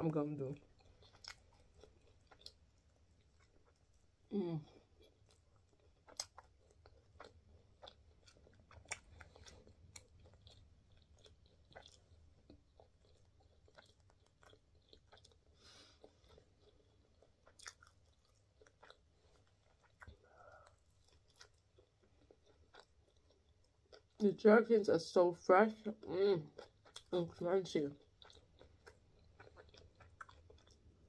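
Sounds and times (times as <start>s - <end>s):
close chewing and mouth clicks: 0.5s - 24.3s, 25.9s - 31.0s.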